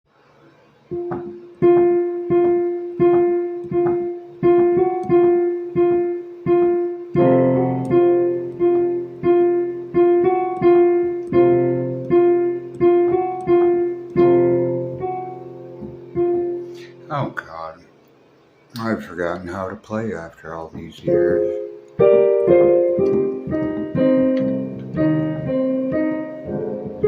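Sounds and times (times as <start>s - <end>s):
slow piano piece: 0.1s - 17.8s, 20.7s - 27.0s.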